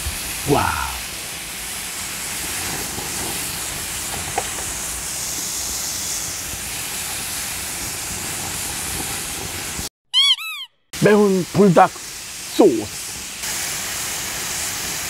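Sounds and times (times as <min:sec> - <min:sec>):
meat sizzling on grill pan: 0:00.0 - 0:09.9, 0:11.0 - 0:15.0.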